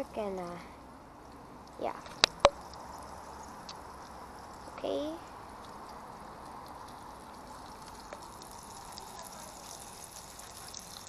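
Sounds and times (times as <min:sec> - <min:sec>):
fish frying in hot oil: 0:01.3 - 0:11.0.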